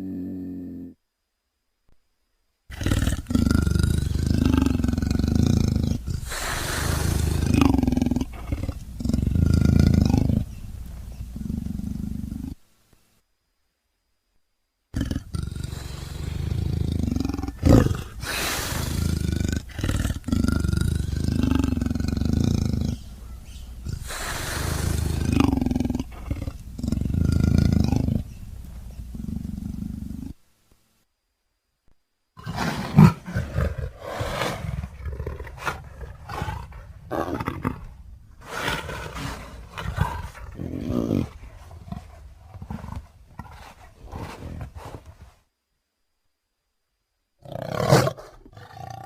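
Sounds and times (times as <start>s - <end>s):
leopard roaring and growling: 2.7s - 12.6s, 14.9s - 30.4s, 32.4s - 45.3s, 47.4s - 49.0s.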